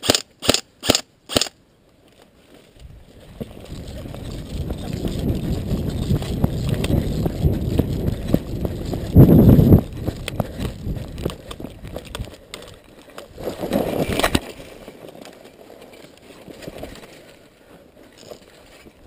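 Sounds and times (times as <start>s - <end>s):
footsteps on stony ground: 1.8s - 19.0s
gear rustling: 2.0s - 19.0s.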